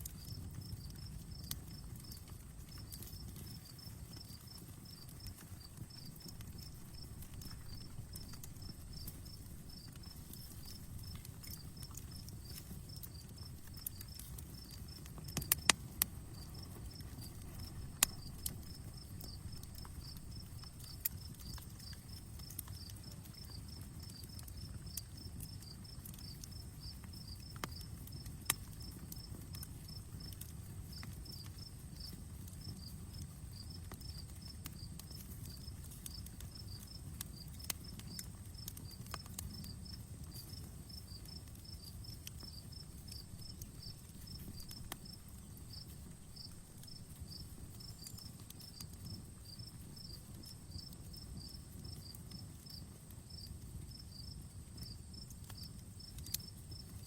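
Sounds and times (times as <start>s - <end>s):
sharp pops of fire: 0.0s - 54.0s, 54.8s - 57.0s
cricket chirping: 0.0s - 57.0s
wood fire crackling: 0.0s - 57.0s.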